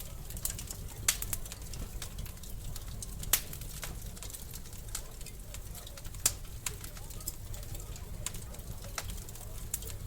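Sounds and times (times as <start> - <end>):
low rumble of flames: 0.0 - 10.0
wood fire crackling: 0.0 - 10.0.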